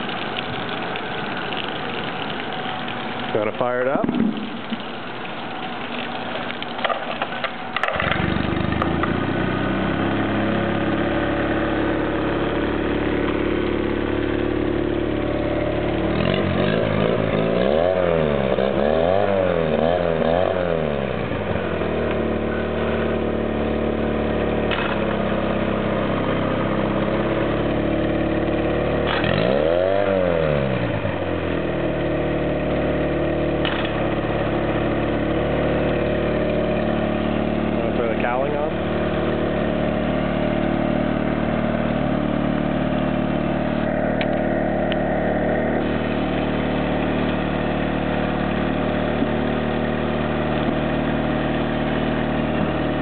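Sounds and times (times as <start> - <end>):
outboard motor revving and idling: 0.0 - 53.0.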